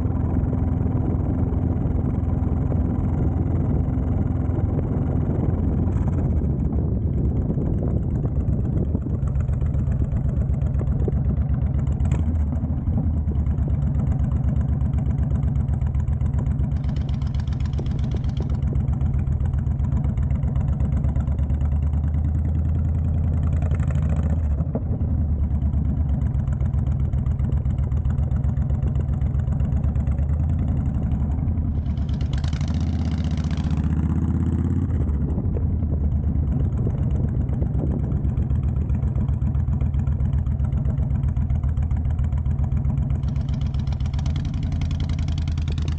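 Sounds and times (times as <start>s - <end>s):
motorcycle exhaust note: 0.0s - 45.9s.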